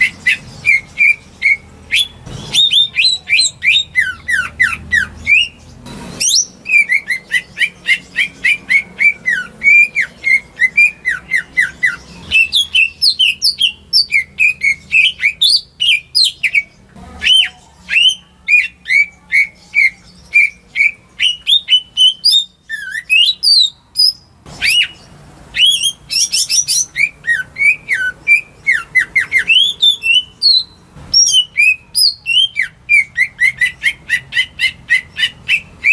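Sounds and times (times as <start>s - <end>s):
bird chirping and whistling: 0.0s - 35.9s.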